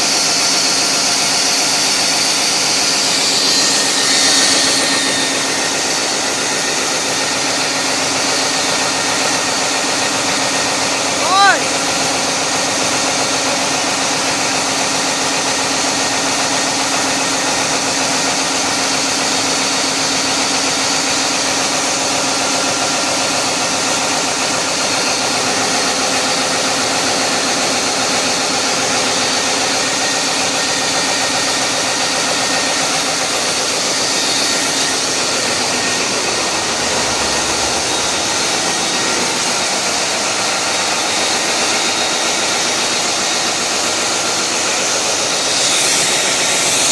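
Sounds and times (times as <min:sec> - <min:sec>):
diesel engine running: 0:00.0 - 0:17.6, 0:22.8 - 0:46.9.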